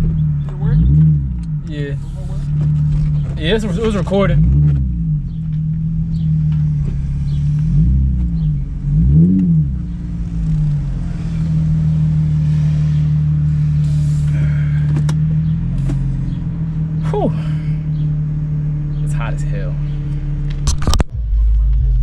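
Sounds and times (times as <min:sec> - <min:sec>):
car engine heard from cabin: 0:00.0 - 0:22.0.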